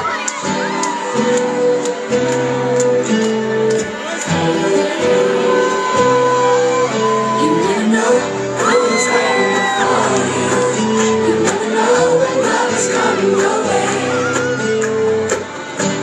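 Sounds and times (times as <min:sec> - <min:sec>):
person singing: 0:00.0 - 0:15.3
crowd shouting and cheering: 0:00.0 - 0:16.0.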